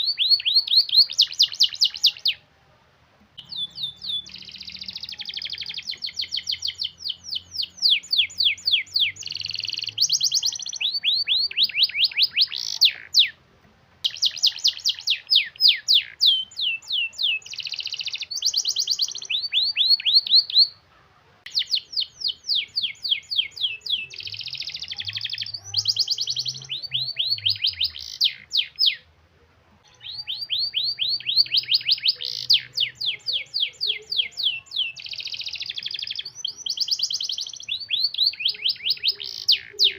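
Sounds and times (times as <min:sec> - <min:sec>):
canary singing rapid trills: 0:00.0 - 0:02.4, 0:03.4 - 0:13.4, 0:14.0 - 0:20.8, 0:21.5 - 0:29.1, 0:29.8 - 0:39.9.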